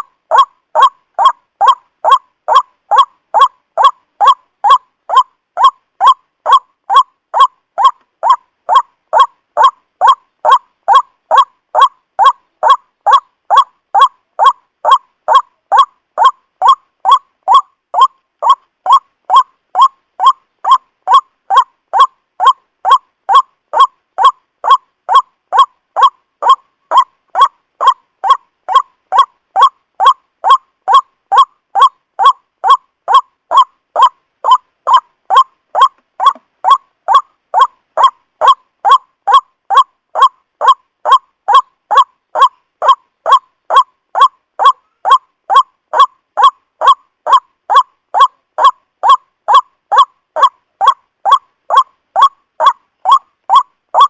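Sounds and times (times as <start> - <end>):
waterhen honking calls: 0.0 - 54.0.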